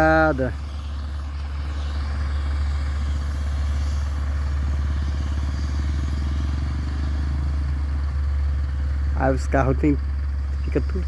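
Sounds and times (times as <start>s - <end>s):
truck passing with low rumble: 0.0s - 11.0s.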